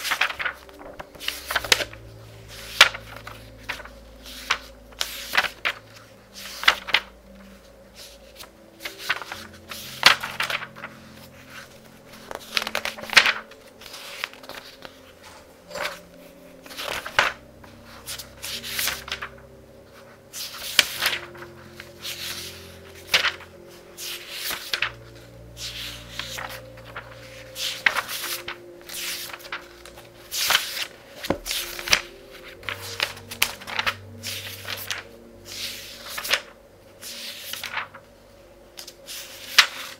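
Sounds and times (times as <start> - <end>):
book pages turning: 0.0 - 39.9
soft background music: 0.0 - 39.9.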